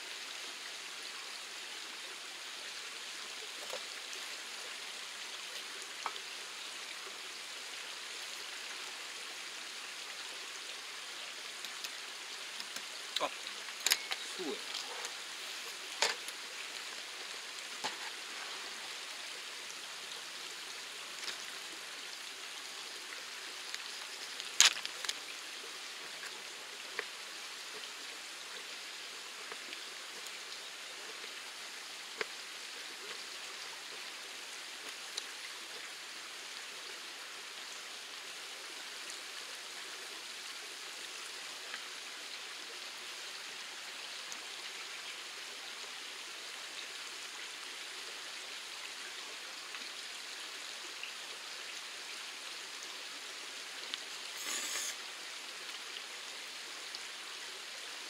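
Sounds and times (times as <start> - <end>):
mountain stream running: 0.0 - 58.0.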